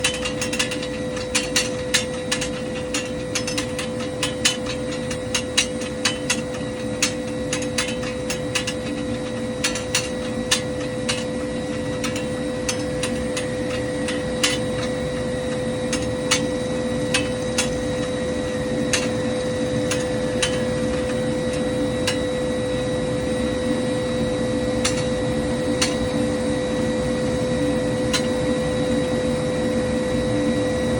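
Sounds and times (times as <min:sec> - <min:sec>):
fan blades clicking and clanking: 0:00.0 - 0:29.7
turbofan engine humming and whining: 0:00.0 - 0:30.9.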